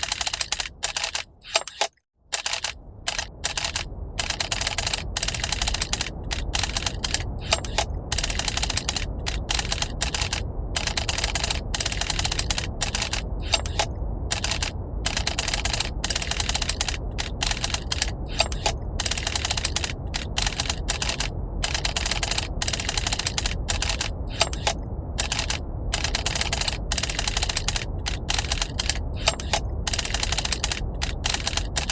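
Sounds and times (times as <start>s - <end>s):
typewriter keys clacking: 0.0s - 31.9s
low rumble of brown noise: 2.2s - 31.9s.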